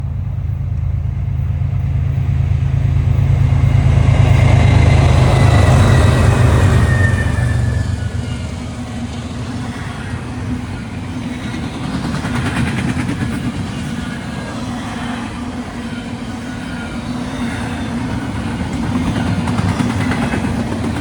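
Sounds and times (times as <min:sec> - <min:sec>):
locomotive engine rumble: 0:00.0 - 0:21.0.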